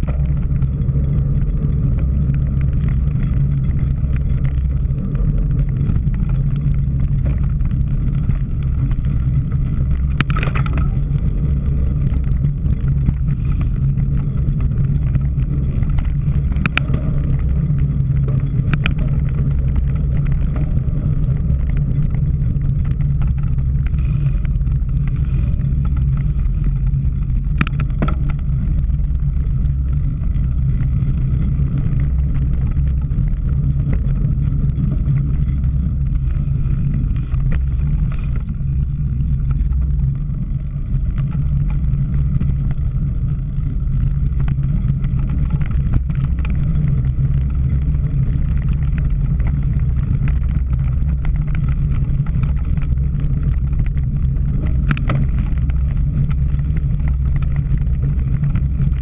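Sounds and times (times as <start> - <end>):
bike clicks and rattles: 0.0 - 59.0
wind rumble on microphone: 0.0 - 59.0.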